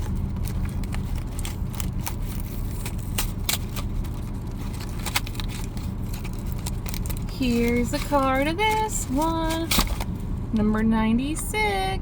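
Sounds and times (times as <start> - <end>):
packaging crinkling and clicking: 0.0 - 10.2
car engine idling: 0.0 - 12.0.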